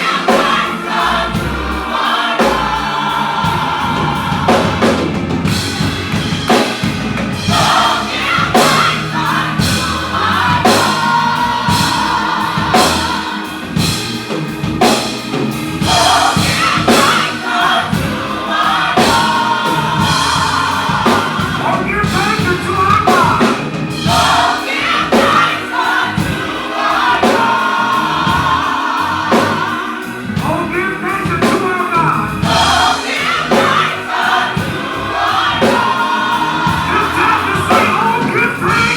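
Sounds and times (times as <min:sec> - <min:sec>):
drums steady beat: 0:00.0 - 0:38.9
gospel choir singing: 0:00.0 - 0:38.9
live band playing: 0:00.0 - 0:38.9.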